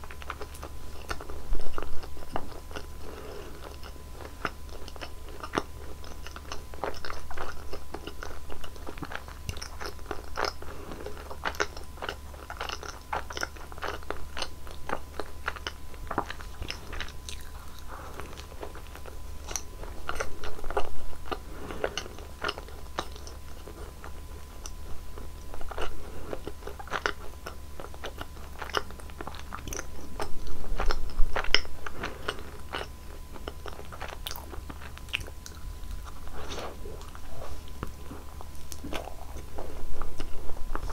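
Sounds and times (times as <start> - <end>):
wet chewing: 0.0 - 40.9.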